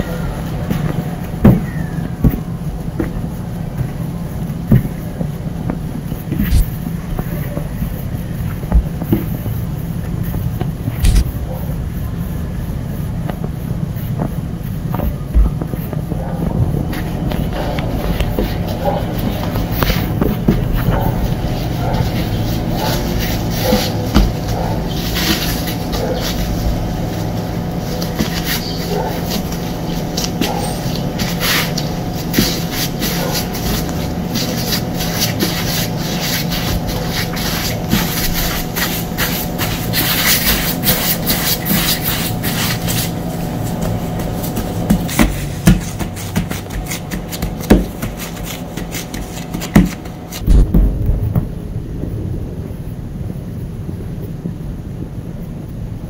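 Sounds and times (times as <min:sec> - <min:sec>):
dough rubbing and scraping: 0:00.0 - 0:50.5
steady low hum: 0:00.0 - 0:56.0.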